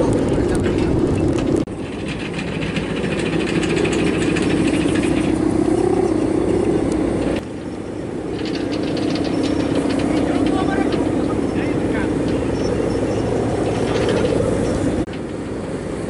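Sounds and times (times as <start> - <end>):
kite hummer droning in wind: 0.0 - 16.0.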